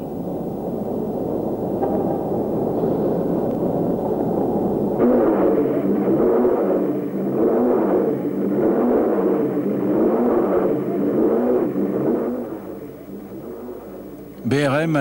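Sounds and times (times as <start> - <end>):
racing car engine revving: 0.9 - 15.0.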